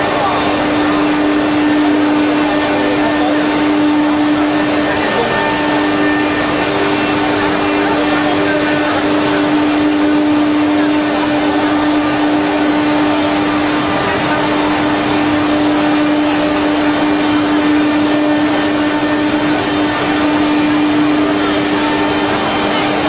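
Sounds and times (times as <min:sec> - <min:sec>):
engraving machine spindle whine: 0:00.0 - 0:23.0
steady rushing noise: 0:00.0 - 0:23.0.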